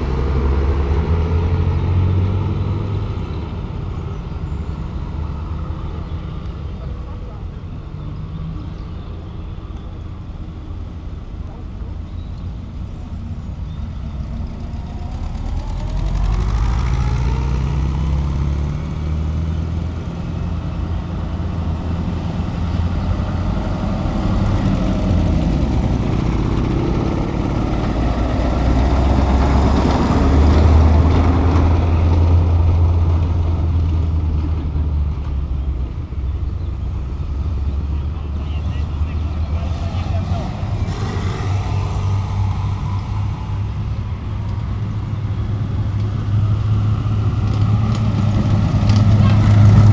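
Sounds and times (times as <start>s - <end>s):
engine revving: 0.0s - 9.0s, 13.9s - 49.9s
vehicle engines passing: 0.0s - 49.9s.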